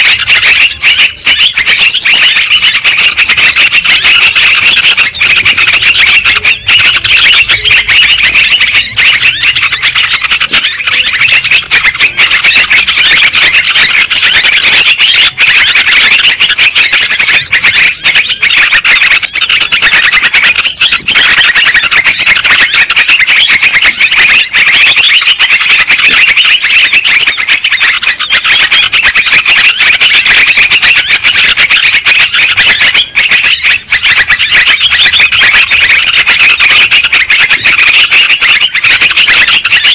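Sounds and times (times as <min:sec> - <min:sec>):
chorus of chattering bird calls: 0:00.0 - 0:39.9.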